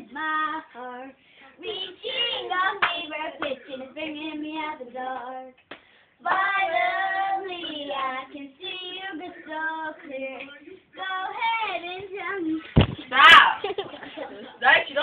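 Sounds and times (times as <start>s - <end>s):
girl singing unaccompanied: 0.0s - 13.1s.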